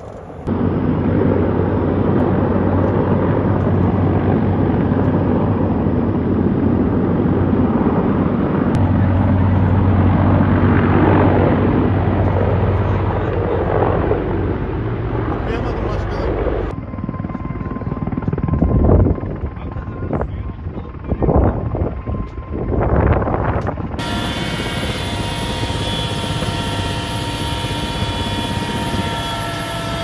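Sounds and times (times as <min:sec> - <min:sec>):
helicopter flying past: 0:00.0 - 0:30.0.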